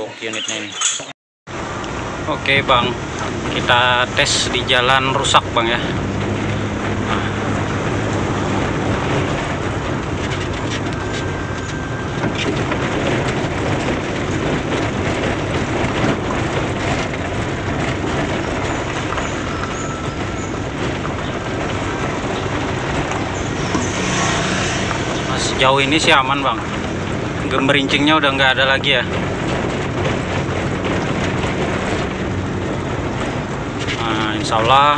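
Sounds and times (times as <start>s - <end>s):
car engine running: 1.6s - 34.9s.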